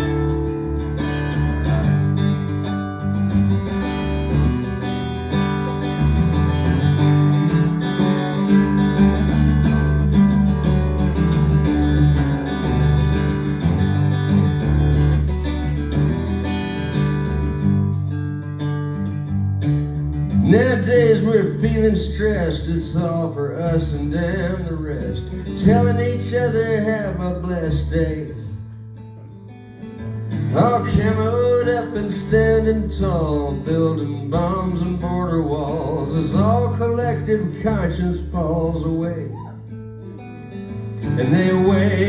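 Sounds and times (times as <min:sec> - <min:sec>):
live band guitars playing: 0:00.0 - 0:42.0.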